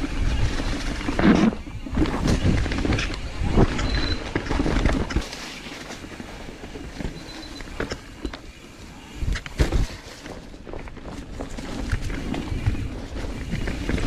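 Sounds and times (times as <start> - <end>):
bike clicks and knocks over bumps: 0.0 - 14.0
bike tyre noise on dirt: 0.0 - 14.0.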